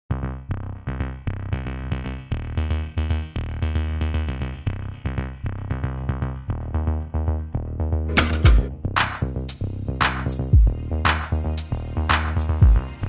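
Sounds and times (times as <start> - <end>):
electronic music: 0.1 - 13.0.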